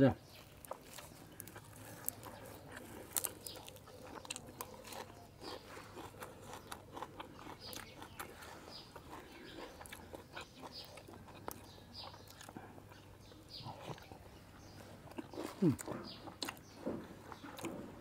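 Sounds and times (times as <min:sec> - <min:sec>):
chewing crunchy vegetables: 0:00.2 - 0:18.0.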